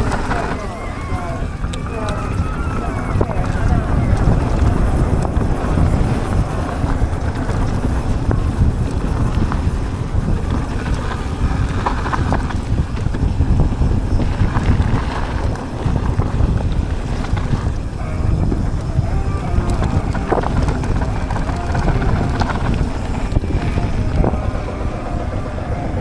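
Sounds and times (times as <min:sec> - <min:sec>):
bike rattles and clicks: 0:00.0 - 0:26.0
bike tyres rumbling on dirt: 0:00.0 - 0:26.0
wind buffeting microphone: 0:00.0 - 0:26.0.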